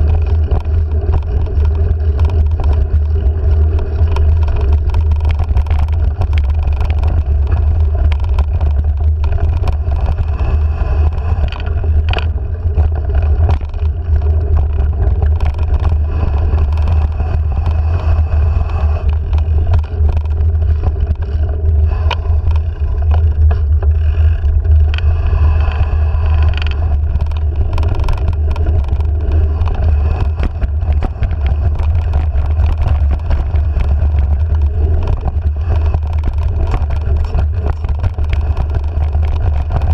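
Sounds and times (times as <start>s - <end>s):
bike rattling over bumps: 0.0s - 39.9s
wind rumbling on microphone: 0.0s - 39.9s.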